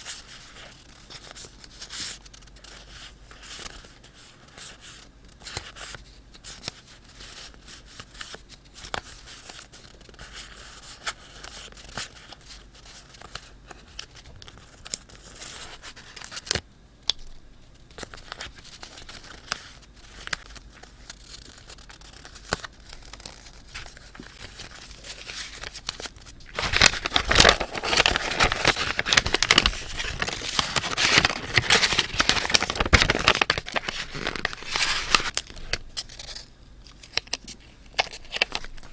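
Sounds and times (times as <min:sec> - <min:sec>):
paper crinkling and tearing: 0:00.0 - 0:16.6, 0:17.9 - 0:38.9
paper rustling: 0:00.0 - 0:16.6, 0:17.9 - 0:38.9.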